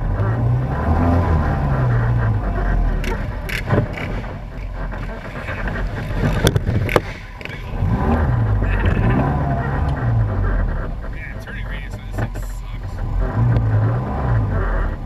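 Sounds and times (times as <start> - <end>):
off-road vehicle engine: 0.0 - 15.0.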